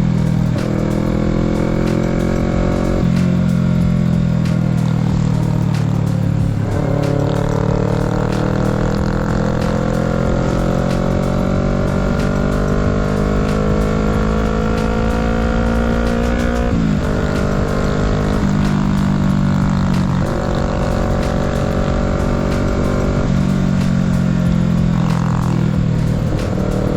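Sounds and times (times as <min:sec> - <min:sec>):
motorcycle engine accelerating: 0:00.0 - 0:26.9
rushing wind noise: 0:00.0 - 0:26.9.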